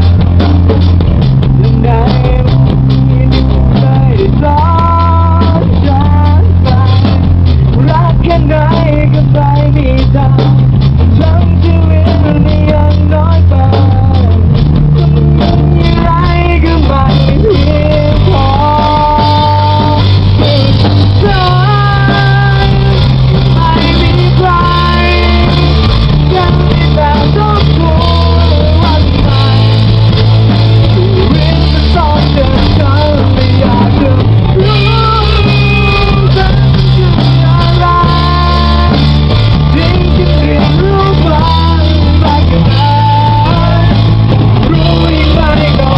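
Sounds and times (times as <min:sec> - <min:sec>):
band with bass line: 0:00.0 - 0:45.9
person singing: 0:00.0 - 0:45.9.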